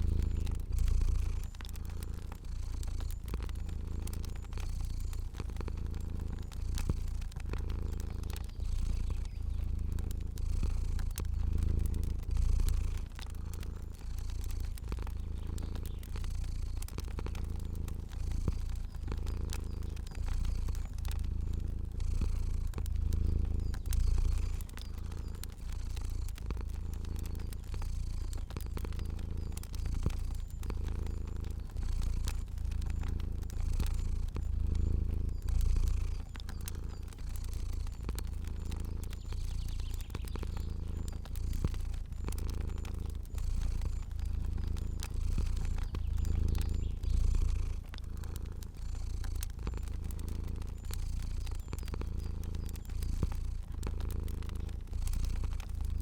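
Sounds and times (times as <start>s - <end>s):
cat purring: 0.0s - 56.0s
faint fire crackling: 0.0s - 56.0s.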